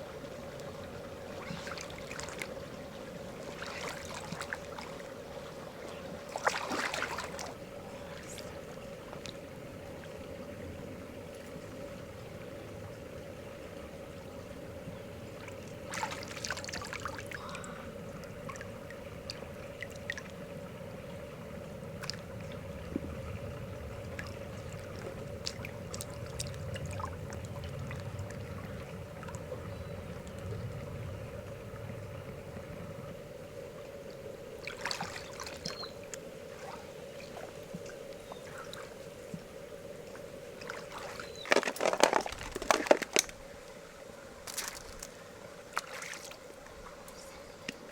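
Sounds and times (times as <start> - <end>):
water sloshing and splashing: 0.0 - 10.8, 15.3 - 30.6, 34.6 - 43.5, 44.4 - 47.9.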